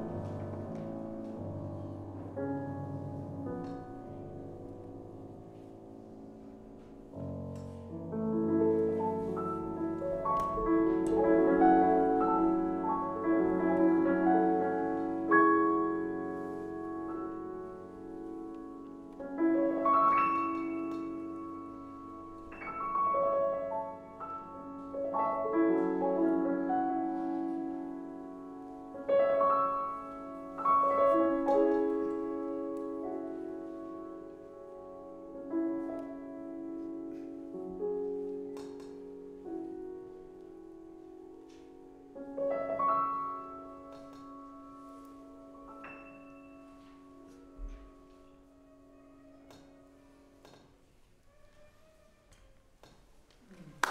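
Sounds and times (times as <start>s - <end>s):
solo grand piano: 0.0s - 53.9s.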